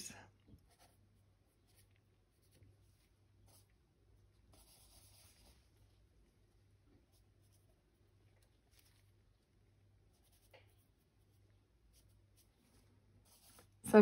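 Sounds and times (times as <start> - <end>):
paint brush scratching on canvas: 0.6 - 6.1, 7.0 - 14.0.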